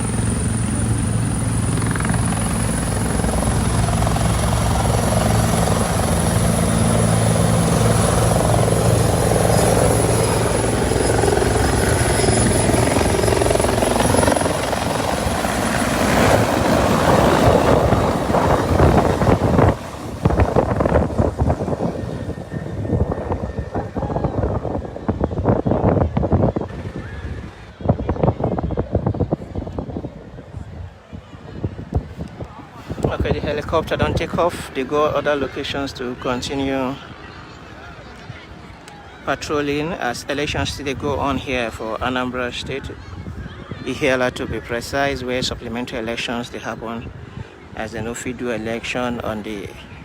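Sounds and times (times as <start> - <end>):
helicopter turbine and rotors droning: 0.0 - 50.0
rotor wash buffeting microphone: 0.0 - 50.0.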